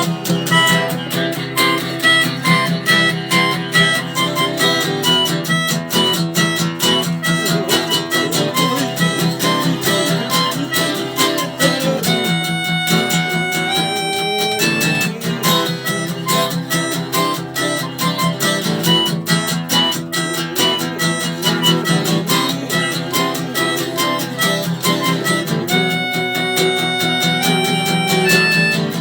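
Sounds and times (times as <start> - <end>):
guitar strummed fast: 0.0 - 29.0
melody instrument long notes: 0.0 - 29.0.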